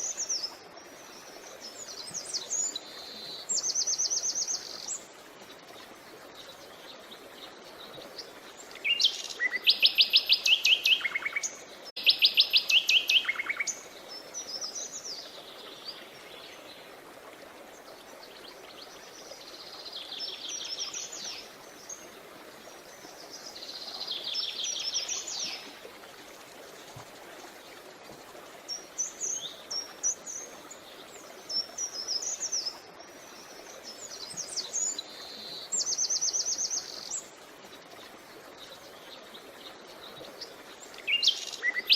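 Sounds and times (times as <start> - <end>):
songbirds singing: 0.0 - 17.0, 17.7 - 27.0, 28.6 - 41.9
creek rushing: 0.0 - 41.9.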